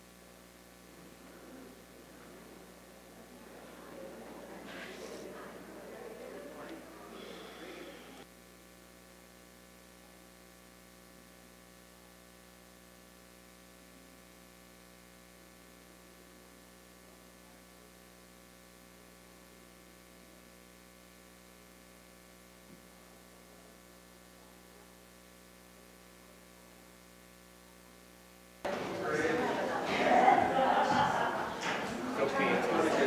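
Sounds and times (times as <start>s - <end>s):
electrical mains hum: 0.0s - 33.0s.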